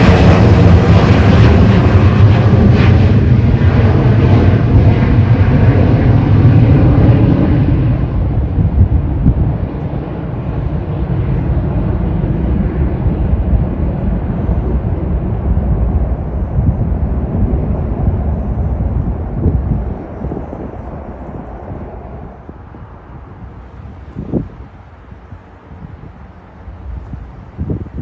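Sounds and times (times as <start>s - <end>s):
jet engines deep rumble: 0.0s - 28.0s.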